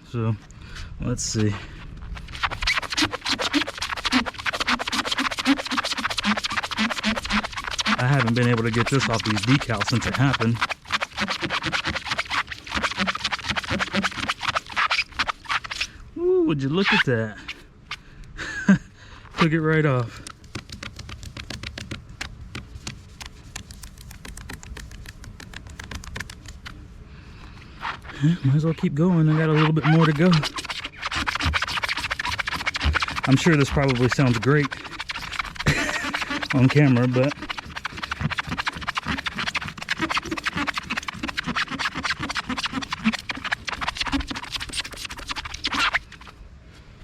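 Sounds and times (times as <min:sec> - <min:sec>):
eraser pad rubbing: 0:01.3 - 0:15.9, 0:16.8 - 0:17.1, 0:19.4 - 0:26.8, 0:27.8 - 0:46.3.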